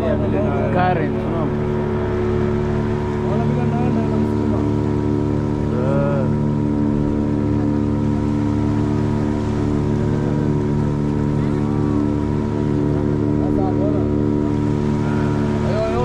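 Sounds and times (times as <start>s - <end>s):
motorboat engine running: 0.0s - 16.0s
water rushing along hull: 0.0s - 16.0s.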